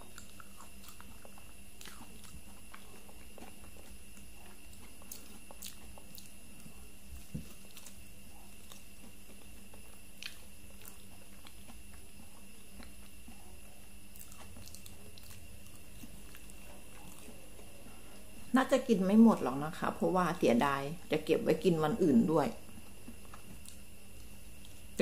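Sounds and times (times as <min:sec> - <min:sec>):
person chewing: 0:00.0 - 0:18.3, 0:22.7 - 0:24.9
low hum: 0:00.0 - 0:25.0.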